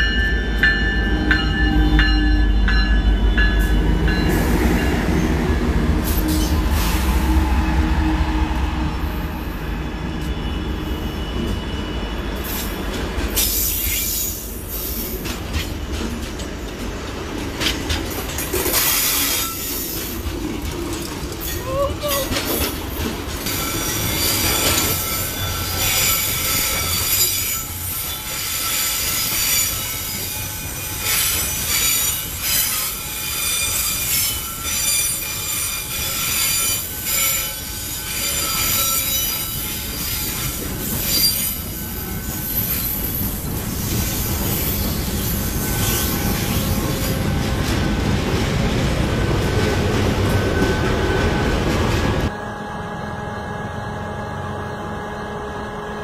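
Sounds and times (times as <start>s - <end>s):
wheels squealing on rails: 0.0s - 17.0s, 17.6s - 56.0s
wheels rumbling on track: 0.0s - 30.6s, 39.8s - 56.0s
diesel locomotive rumbling past: 0.0s - 31.1s, 39.5s - 56.0s.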